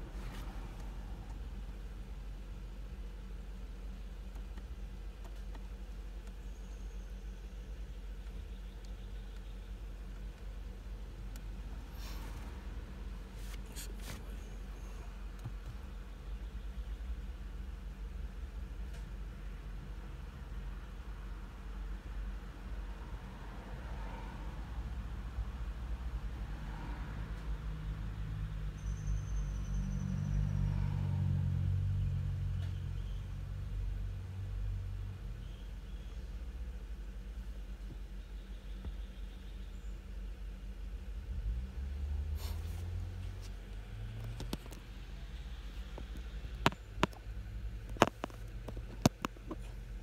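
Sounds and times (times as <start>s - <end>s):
motor vehicle rumble: 0.0s - 50.0s.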